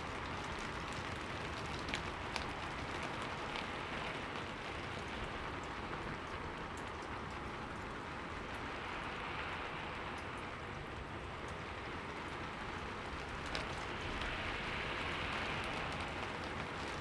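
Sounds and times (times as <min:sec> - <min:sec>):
rain on a window pane: 0:00.0 - 0:17.0.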